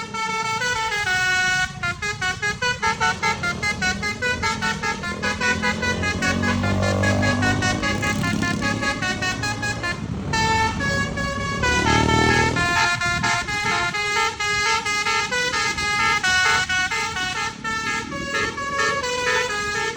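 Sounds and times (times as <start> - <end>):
bus musical horn: 0.0 - 19.9
vehicle engine rumbling: 0.0 - 19.9.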